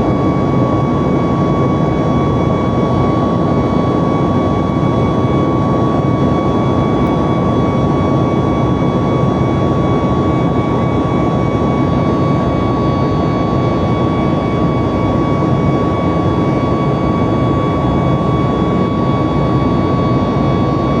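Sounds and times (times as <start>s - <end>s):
high engine whine: 0.0s - 21.0s
jet engines running: 0.0s - 21.0s.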